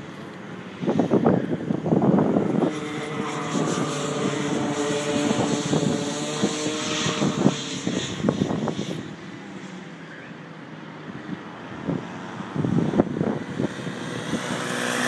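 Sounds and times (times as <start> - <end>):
wind gusts on microphone: 0.0 - 9.8, 11.0 - 15.0
go-kart engine running: 0.0 - 10.1, 11.1 - 15.0.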